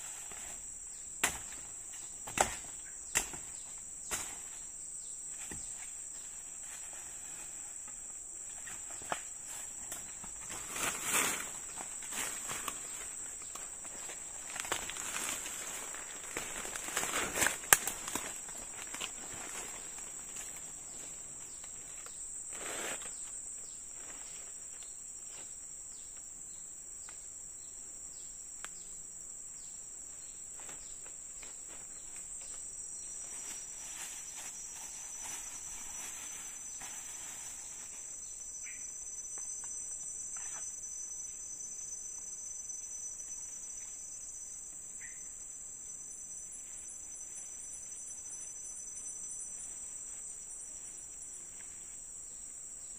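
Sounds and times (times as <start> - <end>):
insect chorus drone: 0.0 - 52.9.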